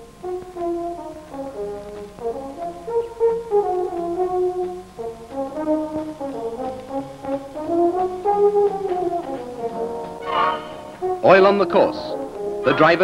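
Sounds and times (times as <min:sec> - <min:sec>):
brass instruments playing melody: 0:00.0 - 0:13.0.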